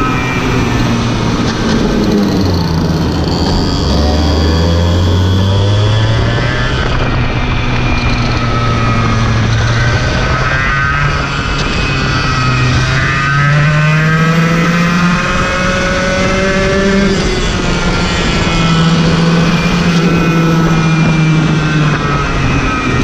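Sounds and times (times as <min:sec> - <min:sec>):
kart engine revving: 0:00.0 - 0:23.0.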